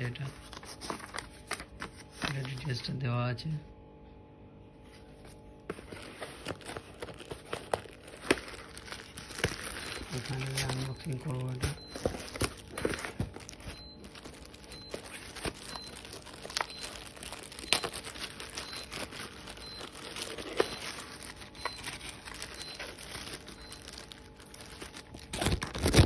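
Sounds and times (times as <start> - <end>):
plastic packaging crinkling: 0.0 - 2.9, 5.7 - 26.0.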